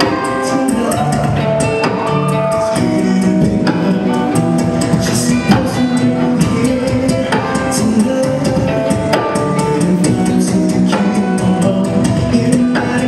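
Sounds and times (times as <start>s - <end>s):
acoustic guitar: 0.0s - 13.0s
beatboxed drum beat: 0.0s - 13.0s.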